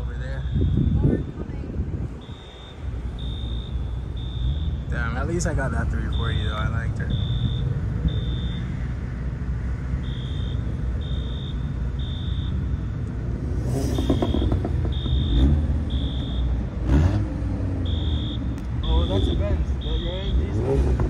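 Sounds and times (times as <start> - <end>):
reversing alarm beeping: 0.0 - 9.0, 9.8 - 13.0, 13.7 - 20.8
car engines rumbling: 0.0 - 21.0.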